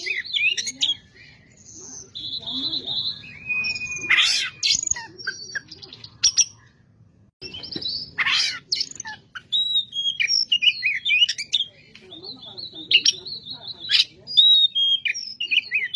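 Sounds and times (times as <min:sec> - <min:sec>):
bird singing whistled song: 0:00.0 - 0:06.6, 0:07.4 - 0:15.9.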